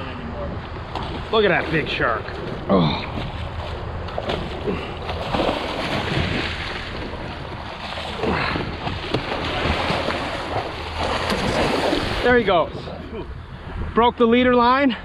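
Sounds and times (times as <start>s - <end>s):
water washing around boat: 0.0s - 13.7s
wind buffeting microphone: 0.0s - 15.0s
knocks and splashes: 0.8s - 12.9s.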